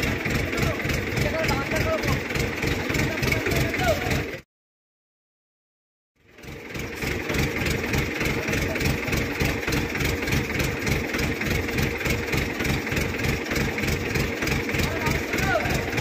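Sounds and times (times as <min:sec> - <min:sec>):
diesel engine idling: 0:00.0 - 0:04.4, 0:06.2 - 0:16.0.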